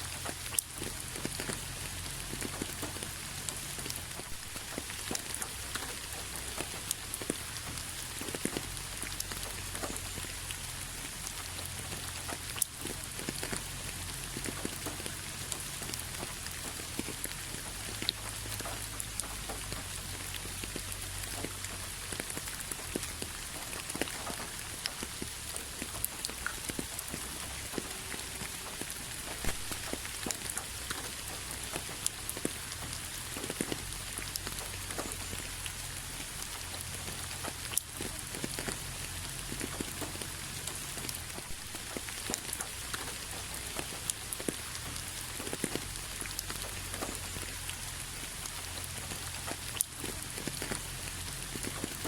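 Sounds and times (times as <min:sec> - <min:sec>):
rain on a hard surface: 0:00.0 - 0:52.0.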